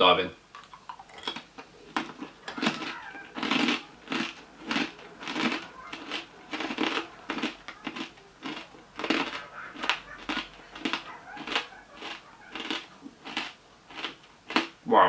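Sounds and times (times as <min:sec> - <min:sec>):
crunchy chewing: 0:00.6 - 0:14.9.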